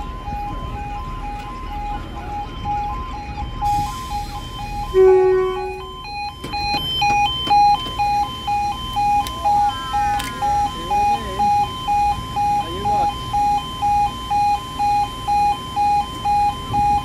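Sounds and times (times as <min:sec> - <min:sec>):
two-tone warning alarm: 0:00.0 - 0:17.0
loud held tone: 0:02.2 - 0:17.0.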